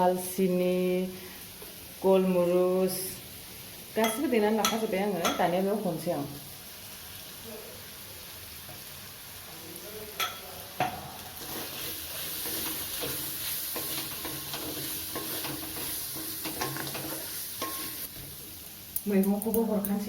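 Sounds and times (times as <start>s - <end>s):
spices sizzling in a pan: 0.0s - 20.0s.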